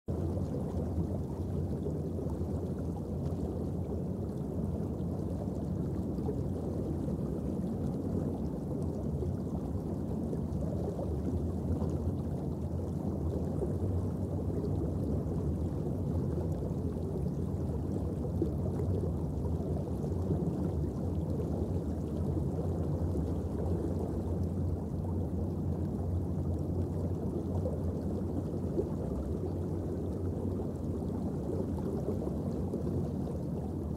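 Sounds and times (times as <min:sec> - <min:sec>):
underwater rumble and wash: 0:00.1 - 0:33.9.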